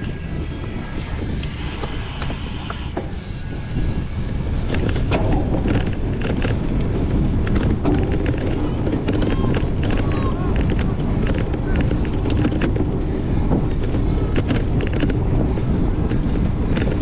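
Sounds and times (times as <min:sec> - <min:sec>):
bike frame and drivetrain rattling: 0:01.4 - 0:03.0, 0:04.6 - 0:17.0.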